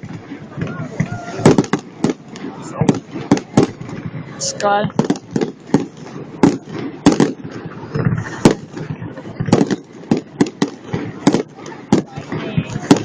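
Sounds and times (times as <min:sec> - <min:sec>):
firework shells bursting: 0:00.0 - 0:13.0
fireworks crackling: 0:00.0 - 0:13.0.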